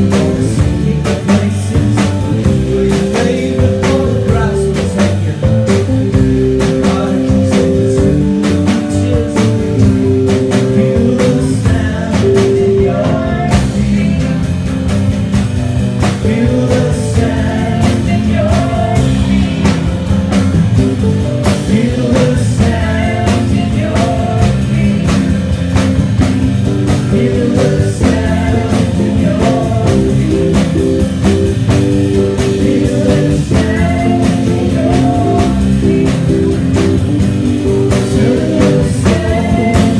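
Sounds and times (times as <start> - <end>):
bass guitar: 0.0 - 39.9
drum kit beat: 0.0 - 39.9
keyboard notes: 0.0 - 39.9.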